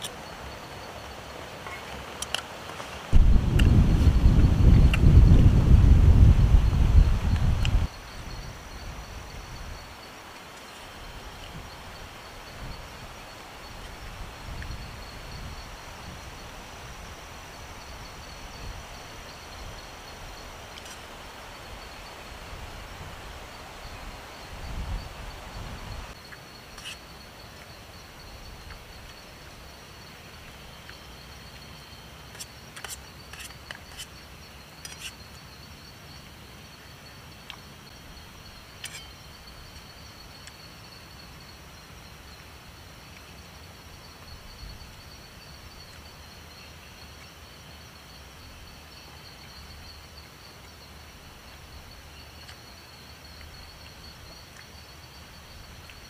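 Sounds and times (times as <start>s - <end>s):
background hiss: 0.0s - 56.0s
insects trilling: 0.0s - 56.0s.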